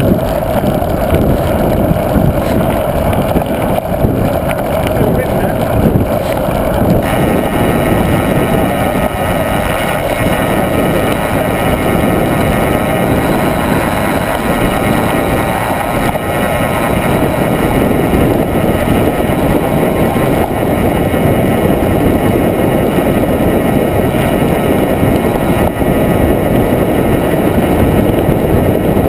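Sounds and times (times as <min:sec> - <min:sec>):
tyres rumbling on dirt: 0:00.0 - 0:29.0
wind buffeting microphone: 0:00.0 - 0:29.0.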